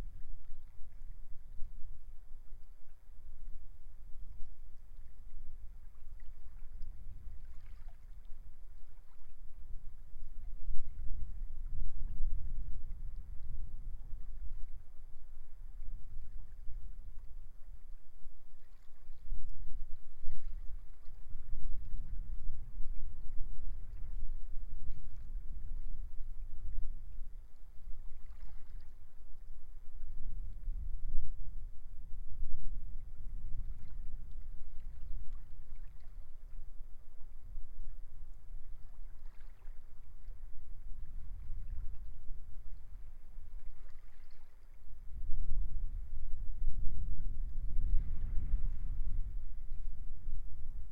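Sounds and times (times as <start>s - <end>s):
faint waves on shore: 0.0s - 50.9s
wind buffeting microphone: 4.2s - 17.9s, 18.6s - 50.9s.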